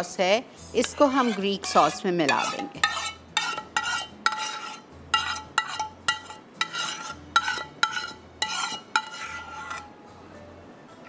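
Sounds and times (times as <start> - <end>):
metal spoon scraping saucepan: 0.7 - 9.9.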